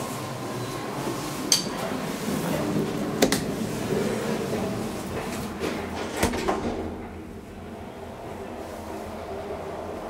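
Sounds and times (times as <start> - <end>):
elevator hum: 0.0 - 10.0.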